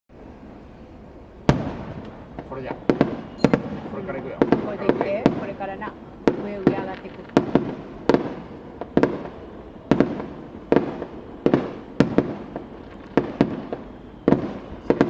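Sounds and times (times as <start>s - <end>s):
firework shells bursting: 0.4s - 15.0s.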